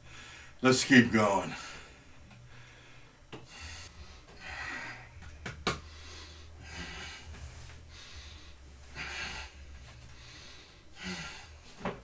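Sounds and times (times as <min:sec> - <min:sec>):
man breathing hard: 0:00.0 - 0:00.6, 0:01.5 - 0:12.0
steady low hum: 0:00.0 - 0:12.0.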